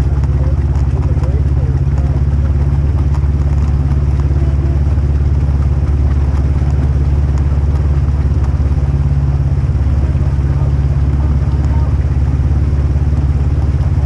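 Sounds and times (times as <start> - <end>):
loud low engine running: 0.0 - 14.0.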